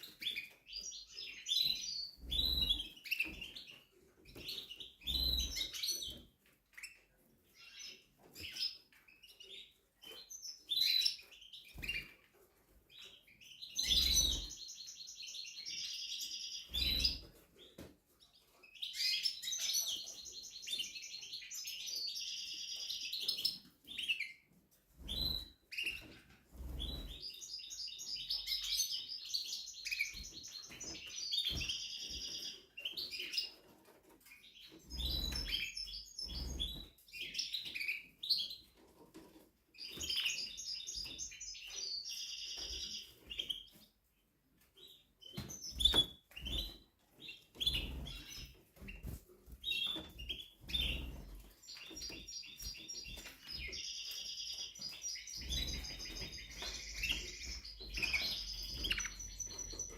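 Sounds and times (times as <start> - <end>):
canary singing trills: 0.0 - 12.3, 12.9 - 17.4, 18.3 - 38.9, 39.7 - 43.9, 44.8 - 59.9.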